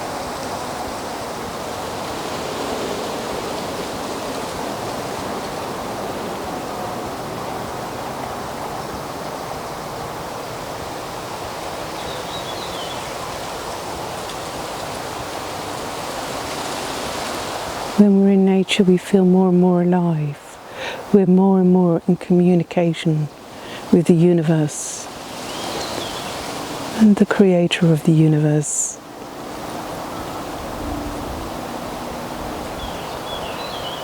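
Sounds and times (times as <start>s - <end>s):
rushing outdoor ambience: 0.0s - 34.0s.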